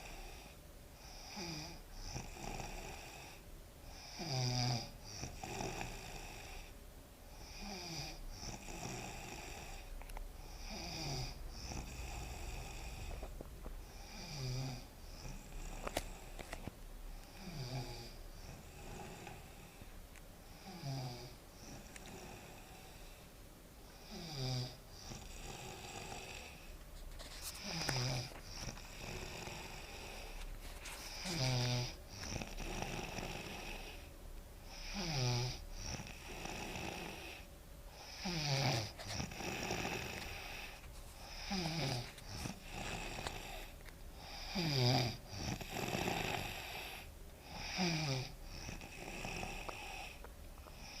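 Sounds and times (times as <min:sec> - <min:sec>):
woman snoring: 0:00.0 - 0:06.7, 0:07.4 - 0:16.4, 0:17.1 - 0:19.8, 0:20.5 - 0:23.2, 0:24.0 - 0:26.7, 0:27.6 - 0:30.5, 0:31.1 - 0:34.1, 0:34.7 - 0:51.0.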